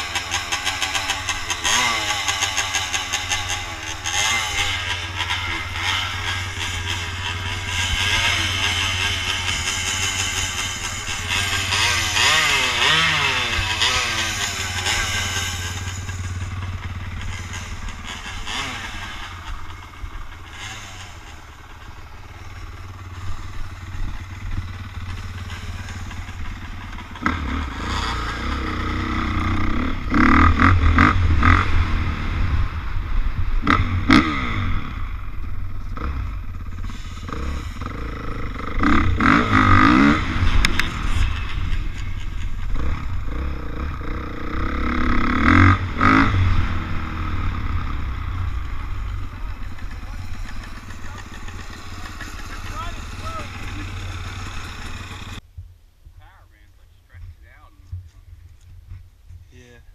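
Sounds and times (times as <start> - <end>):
dirt bike engine revving: 0.0 - 55.4.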